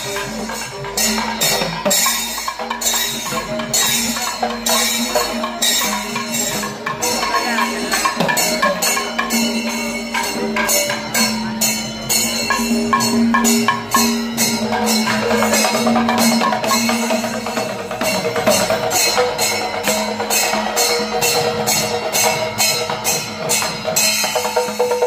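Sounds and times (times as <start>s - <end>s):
drums in dense rhythm: 0.0s - 25.0s
small cymbals clashing: 0.0s - 25.0s.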